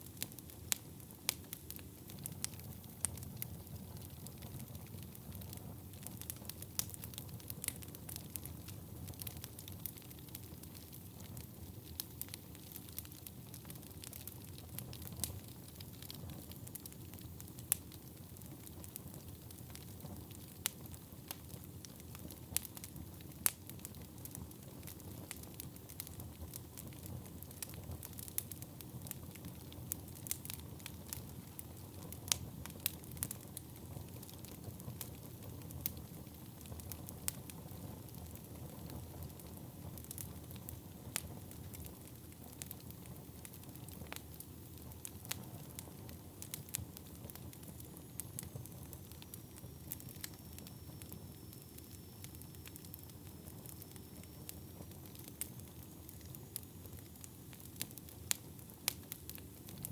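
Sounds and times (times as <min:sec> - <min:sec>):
fire popping: 0:00.0 - 0:59.9
low fire rumble: 0:00.0 - 0:59.9
wood fire crackling: 0:00.0 - 0:59.9.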